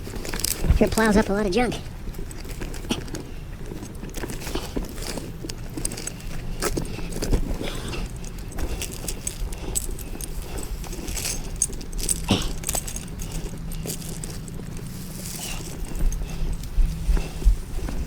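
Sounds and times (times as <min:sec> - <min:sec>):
metallic clinking and rattling: 0:00.0 - 0:18.0.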